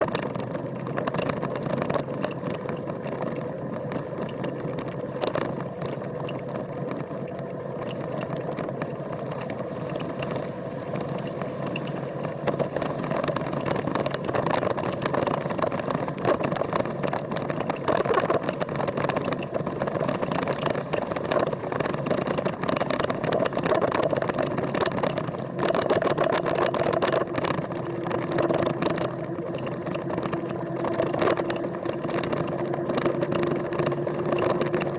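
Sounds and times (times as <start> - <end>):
crackles: 0.0 - 34.9
engine humming: 0.0 - 34.9.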